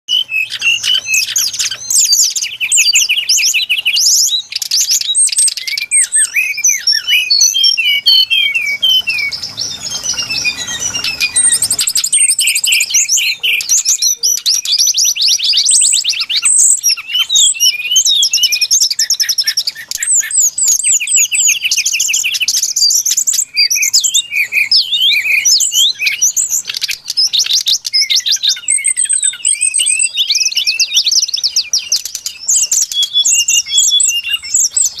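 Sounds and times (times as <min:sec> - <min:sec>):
bird song chirps and trills: 0:00.1 - 0:35.0.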